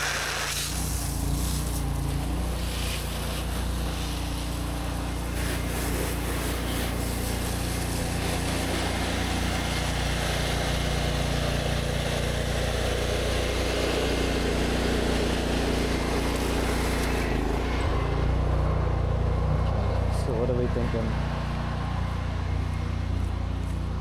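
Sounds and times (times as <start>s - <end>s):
high-pressure water spray hissing: 0.0s - 20.0s
engine running: 0.0s - 24.0s.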